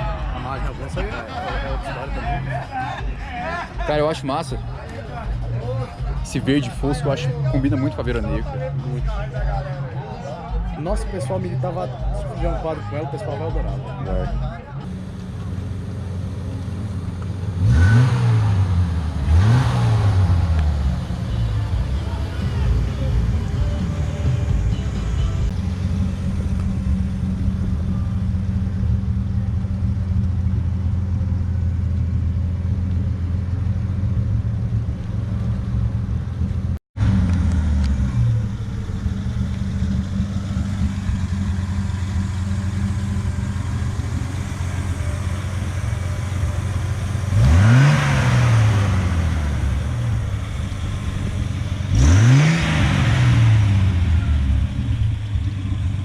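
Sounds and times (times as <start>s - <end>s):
truck engine idling and revving: 0.0s - 56.0s.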